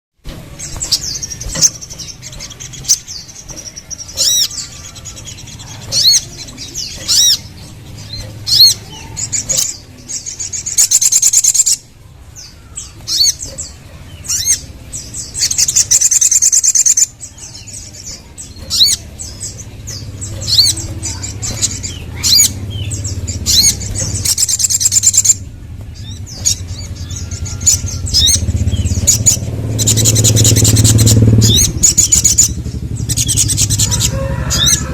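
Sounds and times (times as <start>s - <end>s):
sunbird chirping and trilling: 0.2s - 34.9s.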